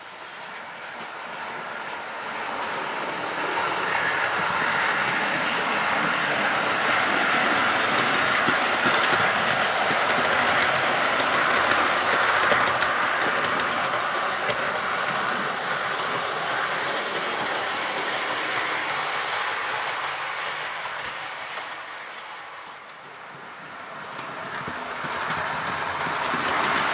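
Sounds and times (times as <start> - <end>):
model train running rumble: 0.0 - 26.9
model train wheels clicking: 3.0 - 26.9.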